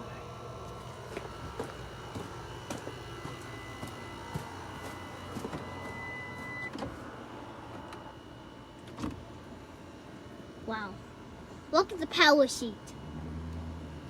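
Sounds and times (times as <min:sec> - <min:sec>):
electric seat motor whining: 0:00.0 - 0:11.5, 0:12.5 - 0:14.0.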